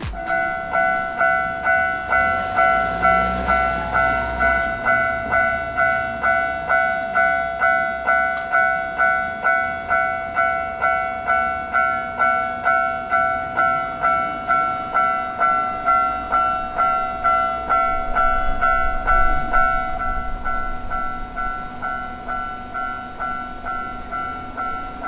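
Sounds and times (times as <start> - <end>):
level-crossing electronic bell: 0.0 - 25.0.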